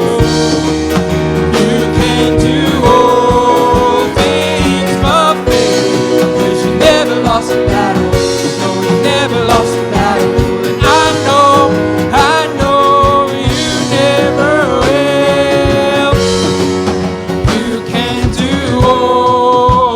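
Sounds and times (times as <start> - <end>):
live worship band music: 0.0 - 19.9.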